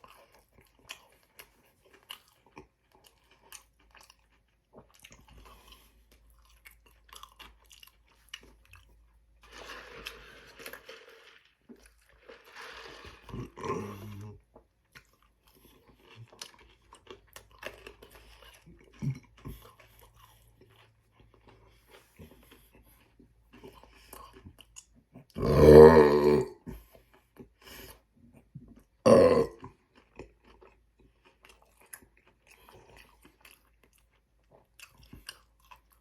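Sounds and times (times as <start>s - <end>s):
man chewing and crunching food: 0.0s - 36.0s.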